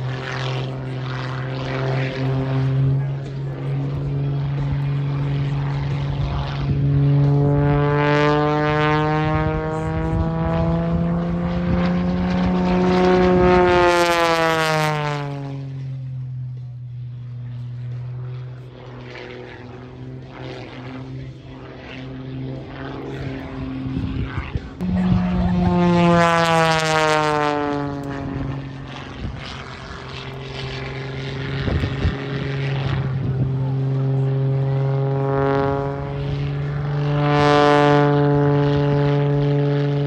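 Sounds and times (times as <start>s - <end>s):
propeller plane passing overhead: 0.0s - 40.0s.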